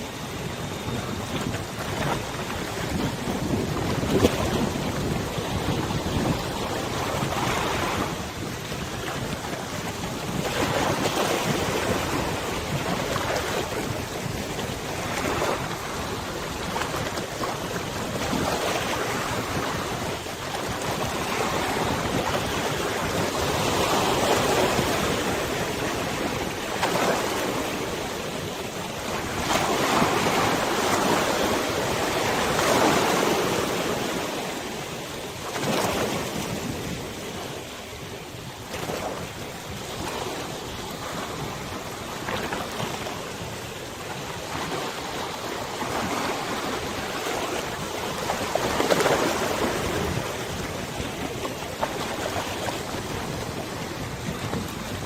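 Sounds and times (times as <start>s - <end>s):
river waves lapping: 0.0s - 55.0s
wind on microphone: 0.0s - 55.0s.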